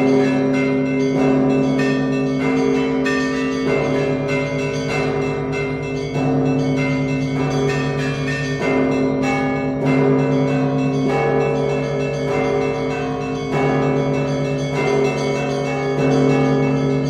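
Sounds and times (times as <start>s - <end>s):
deep bell tolling: 0.0s - 17.0s
small church bells ringing: 0.0s - 17.0s.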